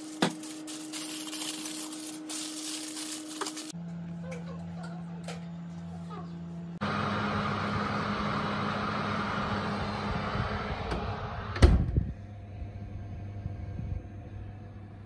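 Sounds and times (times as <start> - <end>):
oven whirring hum: 0.0 - 15.0.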